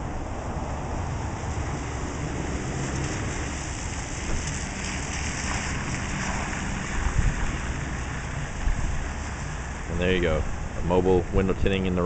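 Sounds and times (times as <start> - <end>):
rain on pavement and vehicles: 0.0 - 12.0.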